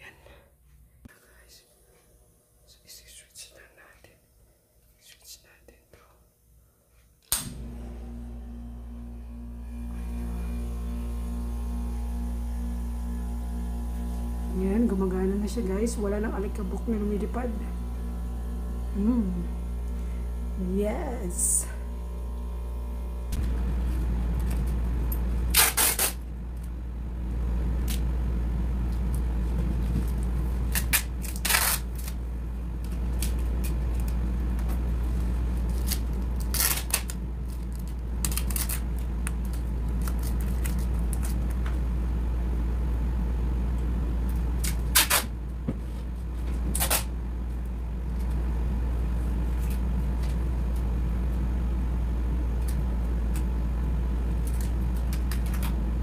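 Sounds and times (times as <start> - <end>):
air conditioner humming: 0.0 - 56.0.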